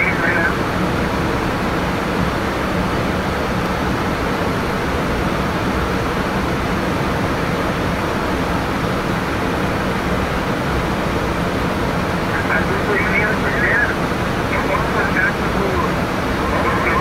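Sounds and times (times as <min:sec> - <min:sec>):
aircraft cockpit rushing noise: 0:00.0 - 0:17.0.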